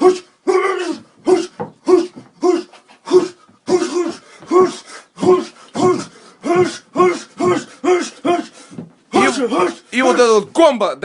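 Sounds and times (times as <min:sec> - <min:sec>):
man shouting rhythmic grunts: 0:00.0 - 0:10.7.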